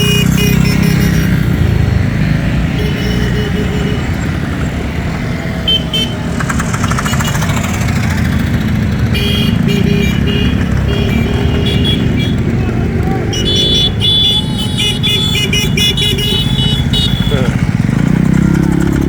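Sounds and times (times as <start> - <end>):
vehicle horns tooting: 0.0 - 1.8, 2.5 - 4.6, 5.5 - 18.2
motorcycle engines running: 0.0 - 19.0.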